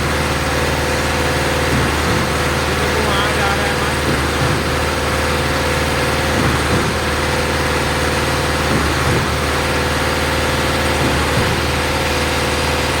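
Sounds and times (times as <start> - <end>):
concrete pump engine running: 0.0 - 13.0.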